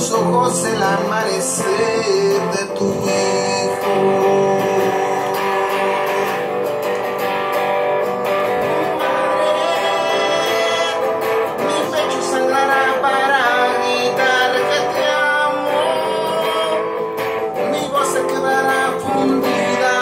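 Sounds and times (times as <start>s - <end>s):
man singing: 0.0s - 7.3s, 8.0s - 20.0s
acoustic guitar strumming: 0.0s - 20.0s.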